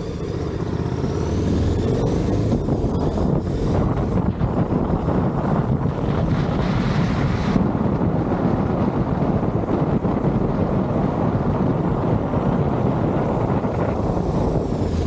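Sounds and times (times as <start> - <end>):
motorcycle engine running: 0.0 - 15.0
wind rumbling on microphone: 0.0 - 15.0.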